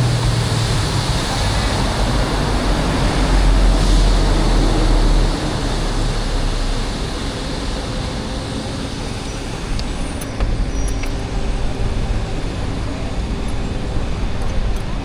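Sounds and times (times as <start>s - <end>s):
deep rumble: 0.0s - 15.0s
street traffic: 0.0s - 15.0s.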